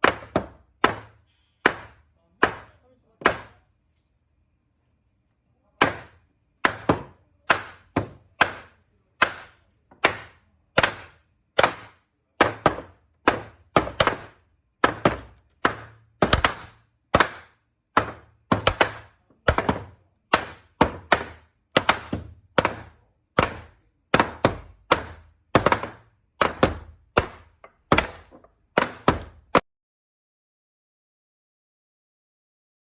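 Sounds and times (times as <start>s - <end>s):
wooden mallet thumping timber: 0.0s - 3.6s, 5.8s - 29.6s.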